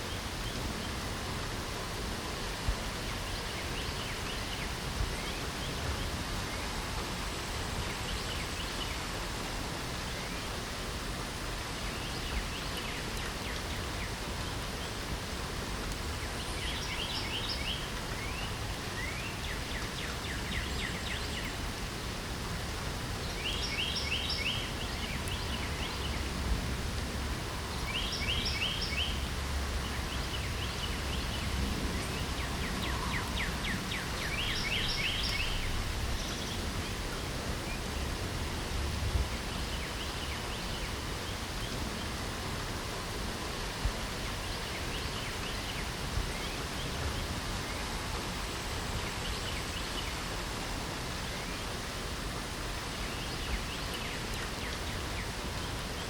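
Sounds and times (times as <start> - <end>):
rain hiss: 0.0 - 56.0
songbird singing: 0.0 - 56.0.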